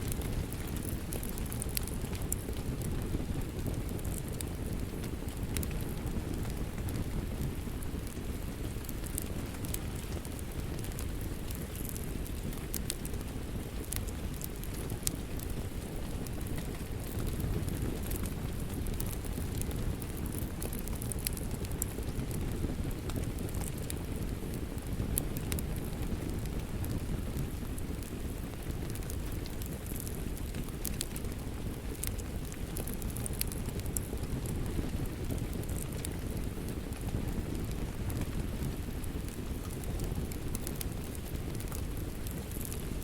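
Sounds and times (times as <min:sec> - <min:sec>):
wood fire pops and snaps: 0:00.0 - 0:43.0.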